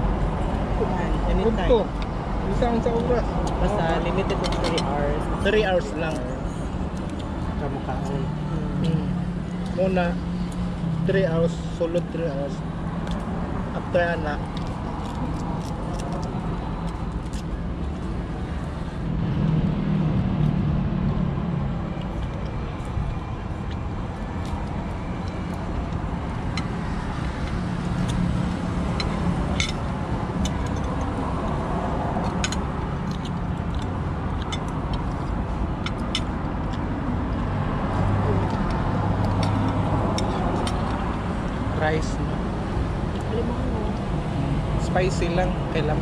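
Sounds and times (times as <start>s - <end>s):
low outdoor background rumble: 0.0s - 46.0s.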